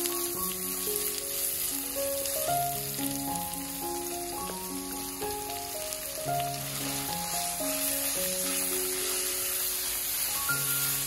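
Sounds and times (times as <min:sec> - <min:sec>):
food sizzling in oil: 0:00.0 - 0:11.0
slow background music: 0:00.0 - 0:11.0.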